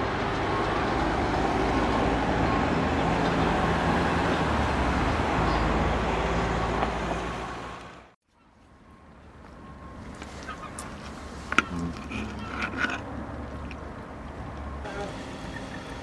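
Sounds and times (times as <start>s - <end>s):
vehicle engine: 0.0s - 8.2s, 8.9s - 16.0s
road traffic noise: 0.0s - 16.0s.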